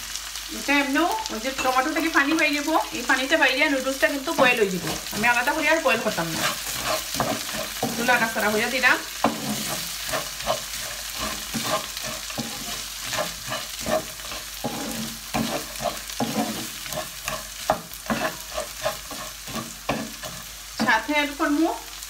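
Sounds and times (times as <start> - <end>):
food sizzling in a pan: 0.0 - 22.0
wooden spoon scraping a pan: 1.5 - 2.4, 3.7 - 21.1.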